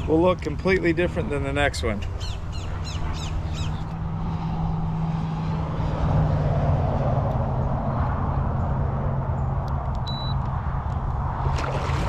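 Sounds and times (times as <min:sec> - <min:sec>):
highway traffic hum: 0:00.0 - 0:12.0
vehicle passing: 0:00.0 - 0:12.0.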